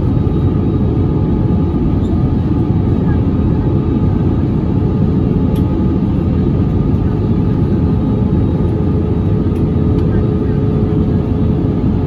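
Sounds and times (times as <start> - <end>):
jet engines rumbling: 0.0 - 12.0
steady hum: 0.0 - 12.0.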